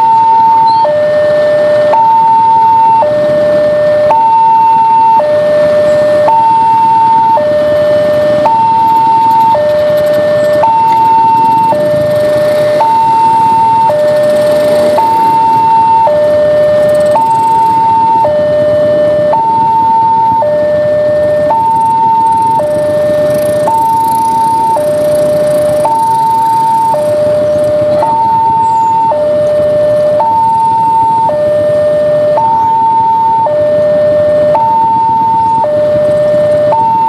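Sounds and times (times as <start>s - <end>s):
level crossing two-tone alarm: 0.0s - 37.0s.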